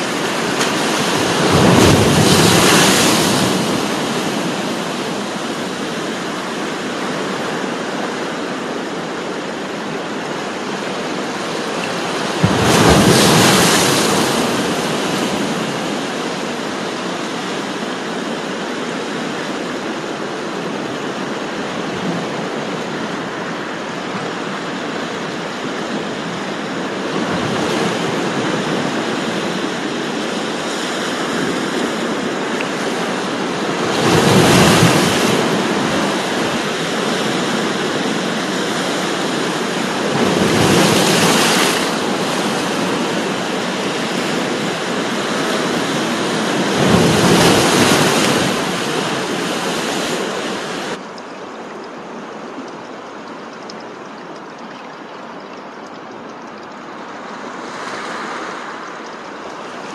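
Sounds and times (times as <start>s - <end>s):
surf washing over rocks: 0.0s - 59.9s
waves breaking: 0.0s - 59.9s.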